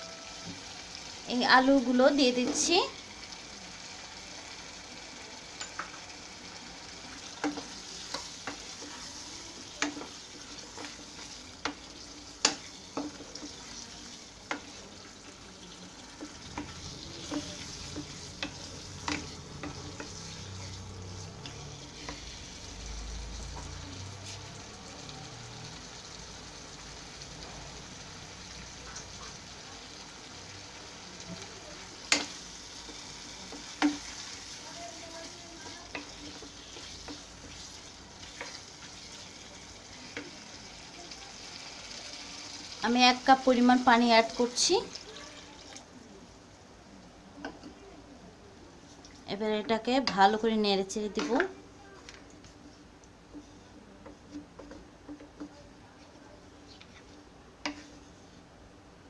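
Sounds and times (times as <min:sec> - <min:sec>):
masala sizzling in oil: 0:00.0 - 0:59.0.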